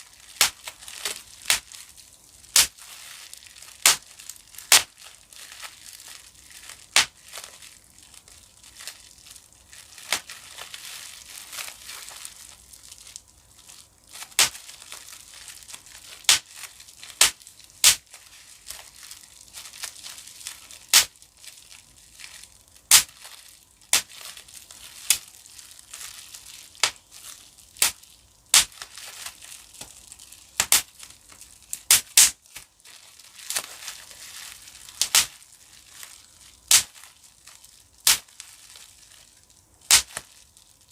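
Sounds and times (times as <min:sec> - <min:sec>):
bubble wrap popping: 0:00.0 - 0:40.9
plastic sheet crinkling: 0:00.0 - 0:40.9.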